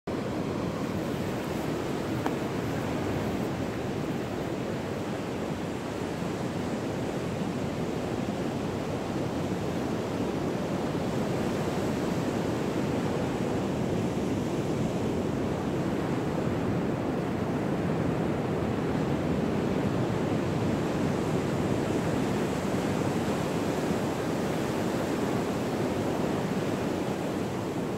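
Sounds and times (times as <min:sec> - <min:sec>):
ocean surf on a beach: 0:00.1 - 0:27.9.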